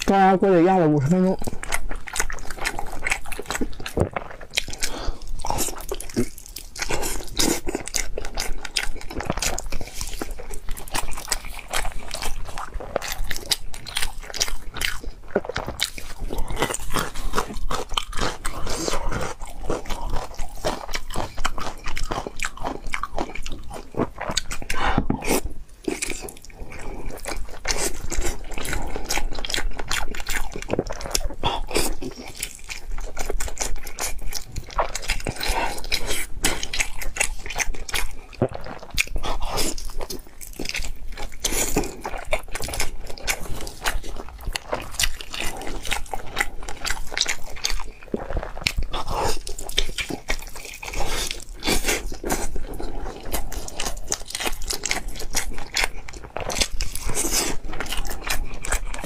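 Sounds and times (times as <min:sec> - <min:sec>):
chewing with clicks and smacks: 0:01.1 - 0:59.0.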